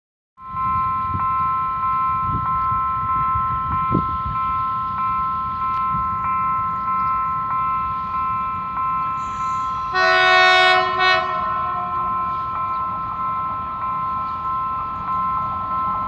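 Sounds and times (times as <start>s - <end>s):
level crossing bell ringing: 0.6s - 16.0s.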